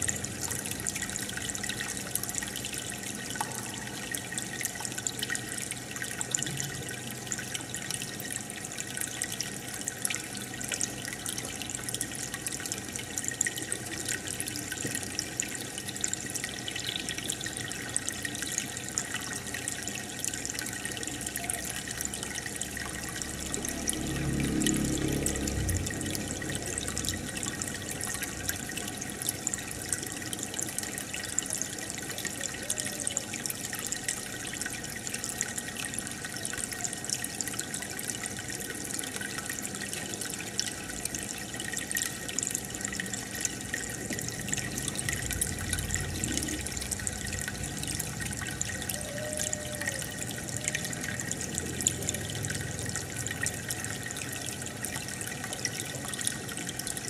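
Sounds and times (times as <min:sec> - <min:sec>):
bubbling water: 0:00.0 - 0:57.0.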